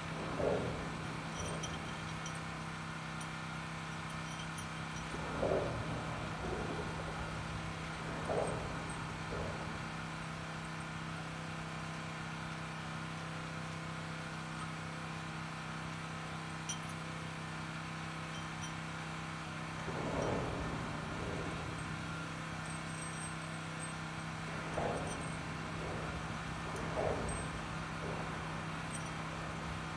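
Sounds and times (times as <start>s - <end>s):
engine running steadily: 0.0s - 29.9s.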